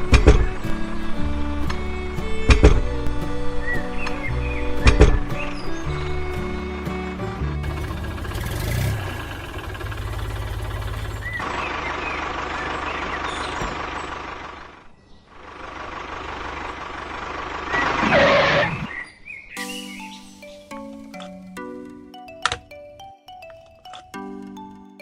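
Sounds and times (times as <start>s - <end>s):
engine rumbling: 0.0s - 25.0s.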